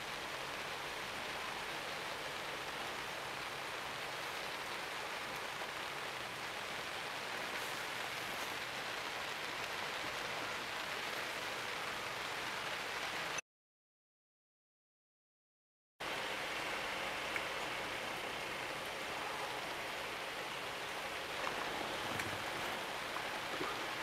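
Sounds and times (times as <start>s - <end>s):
rain hissing on foliage: 0.0s - 13.4s, 16.0s - 24.0s.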